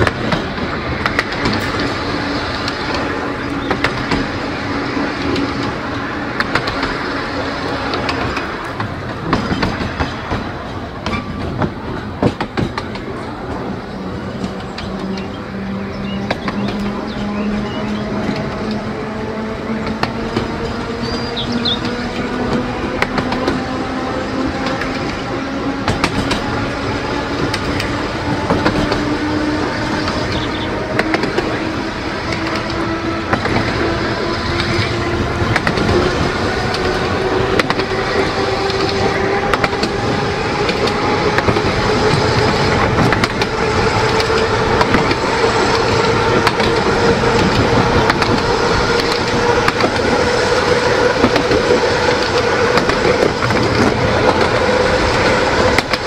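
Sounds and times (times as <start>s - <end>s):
track clicks: 0.0s - 56.0s
tram motors whining: 0.0s - 56.0s
wheels rumbling on rails: 0.0s - 56.0s.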